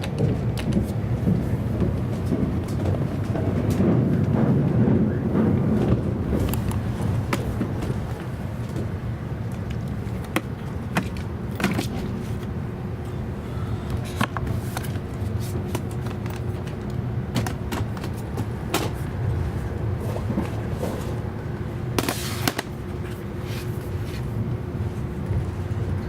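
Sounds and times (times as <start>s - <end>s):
train wheels rumbling on rails: 0.0s - 26.0s
faint steady hum: 5.0s - 26.0s.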